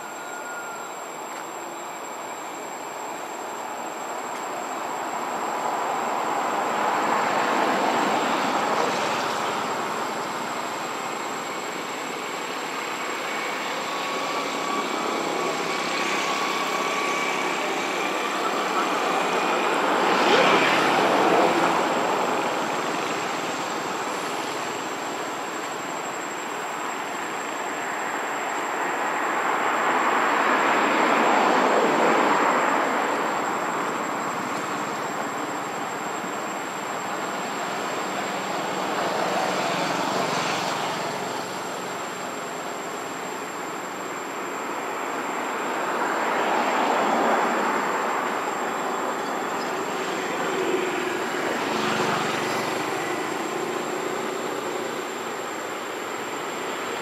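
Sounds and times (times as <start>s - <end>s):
passing vehicles rushing: 5.4s - 27.4s, 29.2s - 57.0s.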